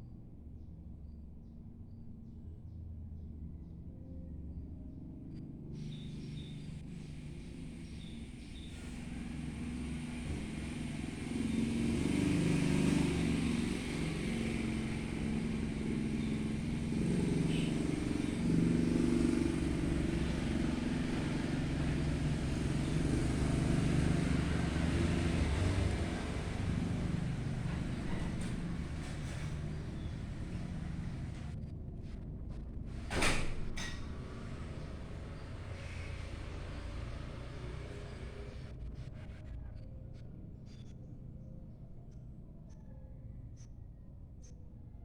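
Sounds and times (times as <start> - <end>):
engine rumbling: 5.7 - 43.6.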